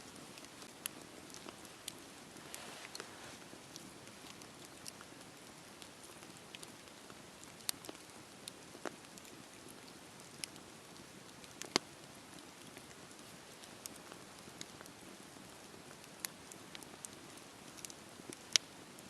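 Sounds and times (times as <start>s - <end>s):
campfire crackling and popping: 0.1s - 19.0s.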